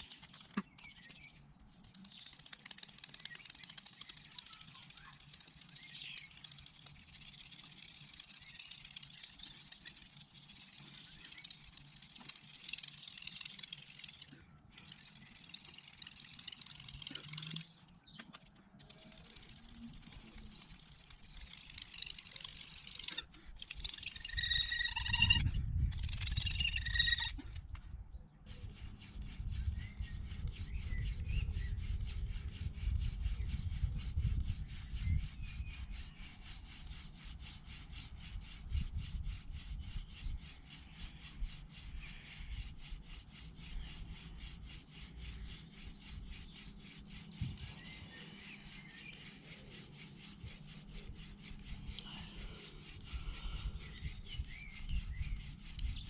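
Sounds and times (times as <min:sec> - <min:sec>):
wood-on-wood rubbing: 0:00.0 - 0:27.6, 0:28.5 - 0:56.0.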